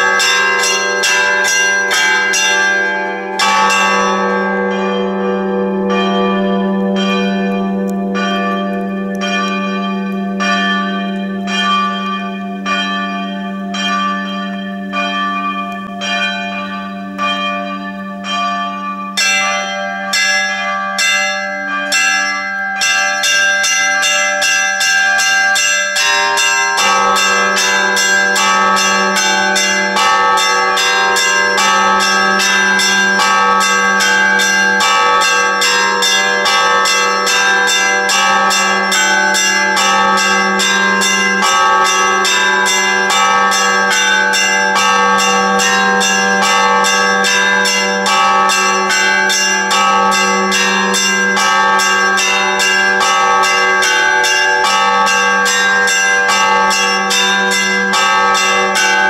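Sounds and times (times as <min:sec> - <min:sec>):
small bells striking: 0:00.0 - 0:59.0.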